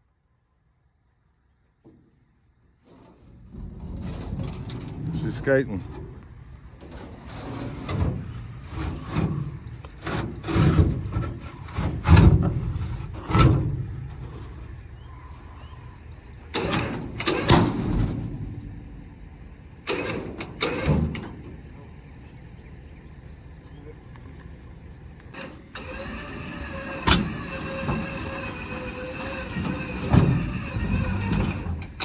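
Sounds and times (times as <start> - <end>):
low rumble of vehicle noise: 0.0 - 32.0
metal clunks and rattles: 2.7 - 22.0, 25.4 - 32.0
truck tyres sliding: 2.8 - 21.7, 25.3 - 32.0.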